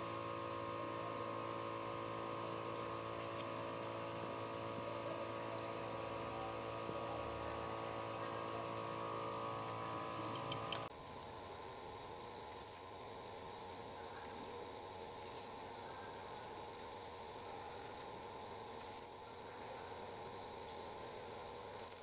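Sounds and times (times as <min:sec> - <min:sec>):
machinery electrical hum: 0:00.0 - 0:22.0.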